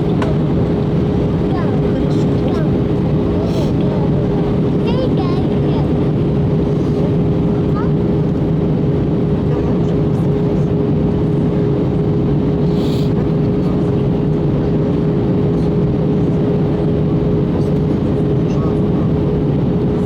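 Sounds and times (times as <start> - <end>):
airliner cabin engine rush: 0.0 - 20.0.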